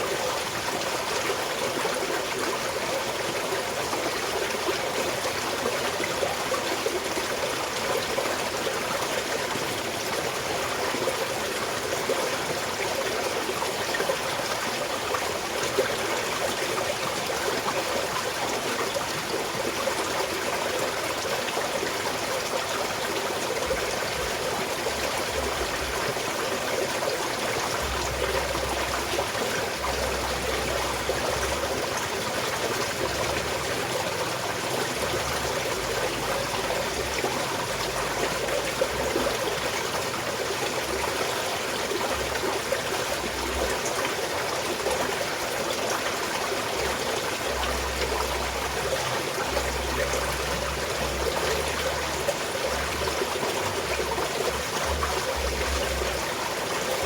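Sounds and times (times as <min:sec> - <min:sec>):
mountain stream trickling: 0:00.0 - 0:57.0.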